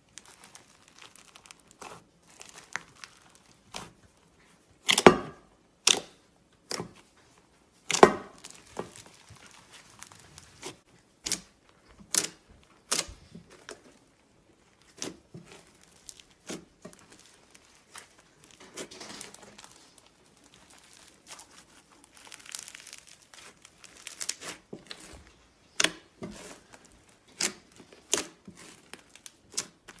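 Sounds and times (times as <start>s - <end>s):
slime squishing: 0.0s - 30.0s
slime popping and crackling: 0.1s - 3.9s, 7.8s - 13.6s, 14.7s - 30.0s.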